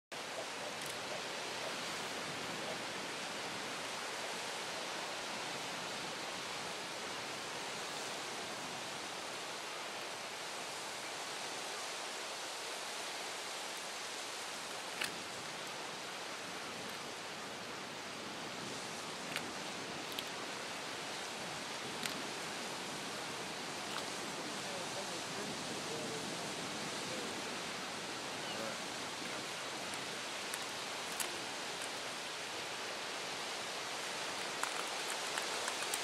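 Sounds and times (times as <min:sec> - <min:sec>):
small waves breaking on shore: 0:00.2 - 0:36.0.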